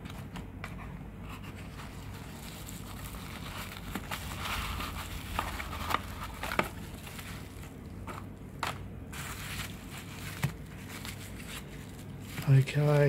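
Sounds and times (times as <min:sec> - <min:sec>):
bubble wrap crinkling: 0:01.5 - 0:13.0.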